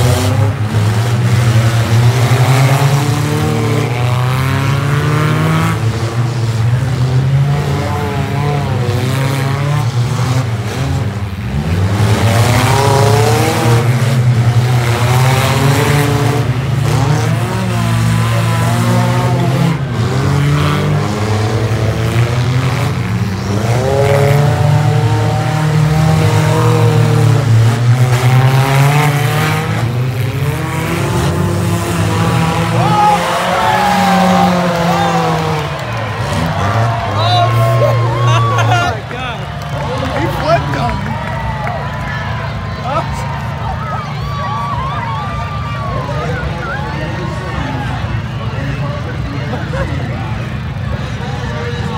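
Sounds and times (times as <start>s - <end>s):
car engines revving: 0.0s - 51.9s.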